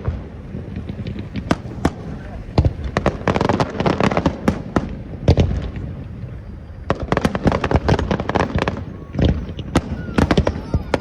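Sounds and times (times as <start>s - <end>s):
fireworks bangs and crackles: 0.0s - 11.0s
heavy firework boom: 0.0s - 11.0s.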